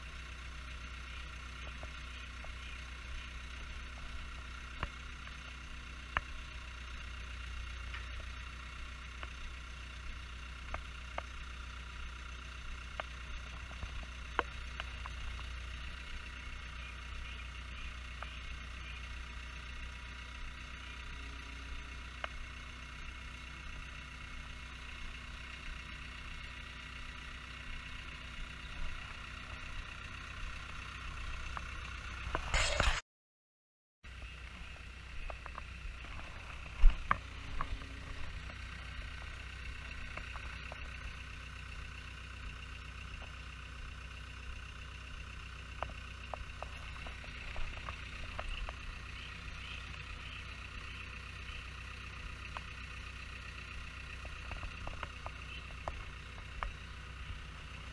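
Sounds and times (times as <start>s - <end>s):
diesel engine running: 0.0s - 33.0s, 34.0s - 57.9s.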